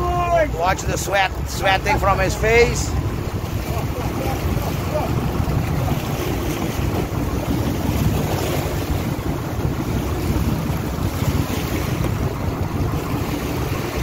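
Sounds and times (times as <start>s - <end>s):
sea washing against boat hull: 0.0s - 14.0s
wind buffeting microphone: 0.0s - 14.0s.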